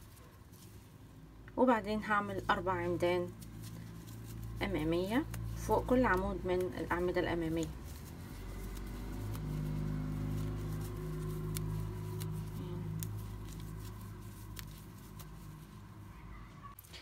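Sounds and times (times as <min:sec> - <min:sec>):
low motor hum: 0:01.9 - 0:16.3.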